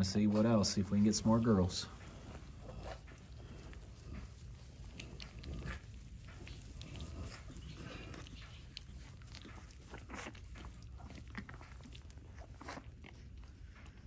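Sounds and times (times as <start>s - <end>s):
piglets suckling and snuffling: 0.0s - 14.0s.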